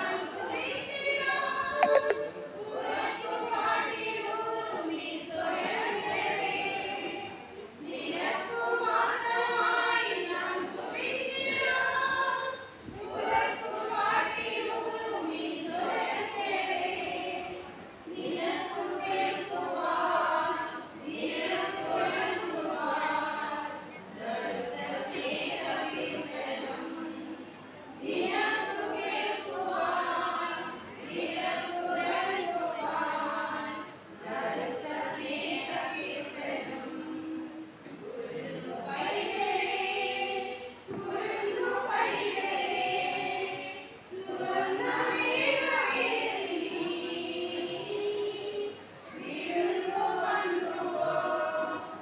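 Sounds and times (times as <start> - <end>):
women's choir singing a carol: 0.0 - 52.0.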